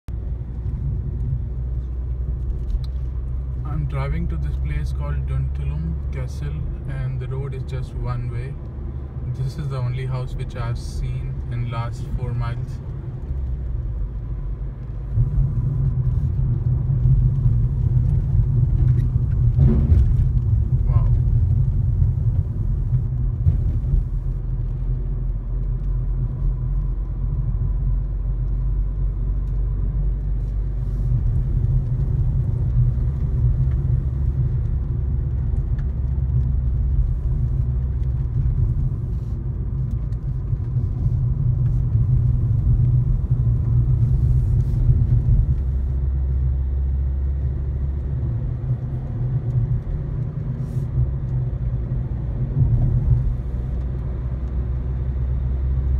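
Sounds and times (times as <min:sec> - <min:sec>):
car engine and tyres rumbling: 0:00.0 - 0:55.9.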